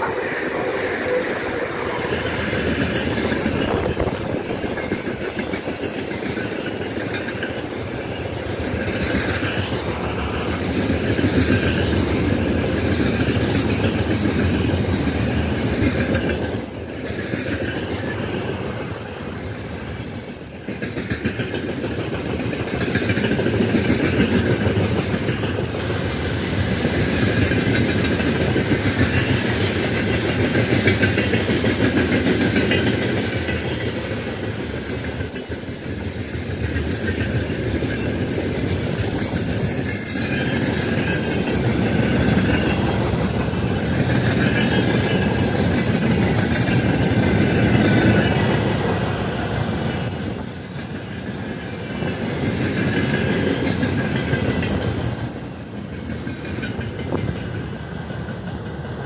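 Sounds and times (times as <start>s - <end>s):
freight train wagons rolling: 0.0s - 59.0s
wheels clattering over rail joints: 0.0s - 59.0s.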